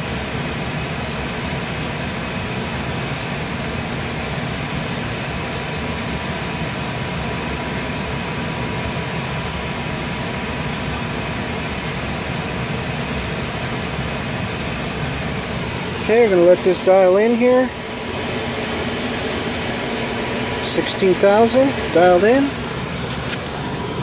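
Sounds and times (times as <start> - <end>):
faint high whine: 0.0 - 24.0
fans and machinery humming: 0.0 - 24.0.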